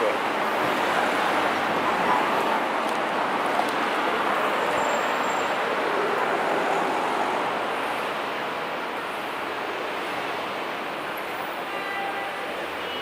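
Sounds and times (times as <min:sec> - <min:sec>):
street traffic hiss: 0:00.0 - 0:13.0.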